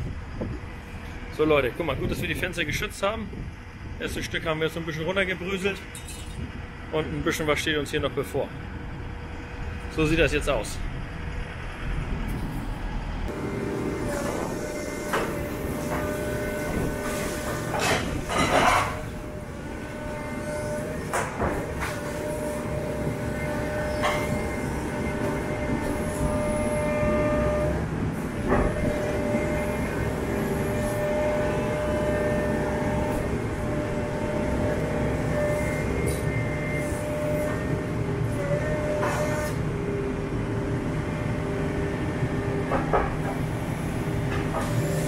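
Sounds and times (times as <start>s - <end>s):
excavator hydraulic whine: 0.0s - 45.0s.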